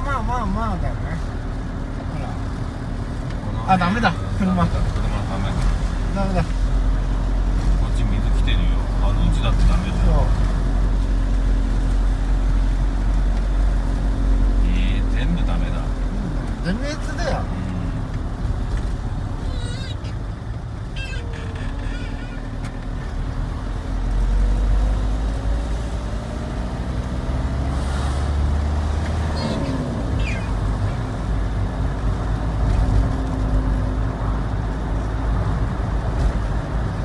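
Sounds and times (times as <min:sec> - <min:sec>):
car engine: 0:00.0 - 0:37.0
road rumble: 0:00.0 - 0:37.0.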